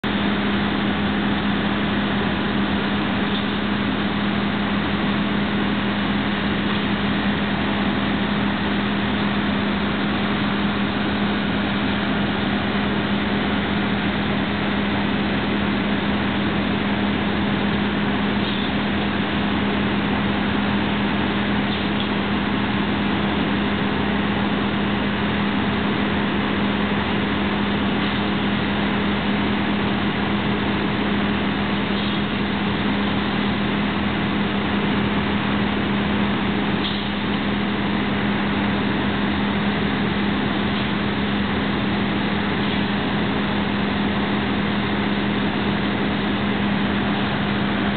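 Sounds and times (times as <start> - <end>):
constant low hum: 0.0 - 47.9
construction machinery engine drone: 0.0 - 47.9.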